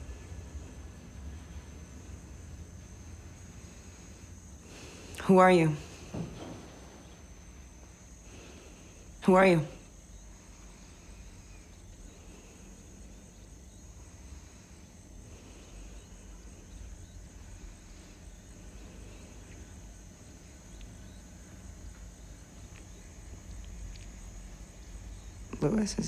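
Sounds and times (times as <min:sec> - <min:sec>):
faint ticks and chirps: 0:00.0 - 0:26.0.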